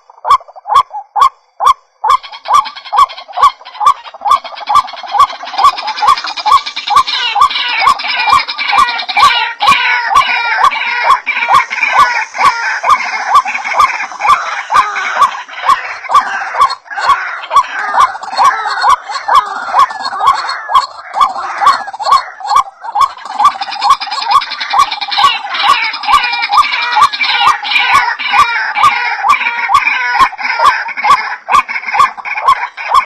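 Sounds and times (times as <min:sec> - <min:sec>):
waterhens calling harshly: 0:02.0 - 0:33.0.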